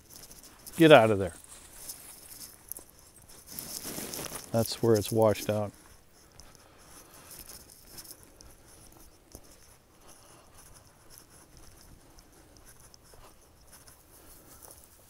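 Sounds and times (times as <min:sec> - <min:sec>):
footsteps on dry grass: 0:00.1 - 0:15.0.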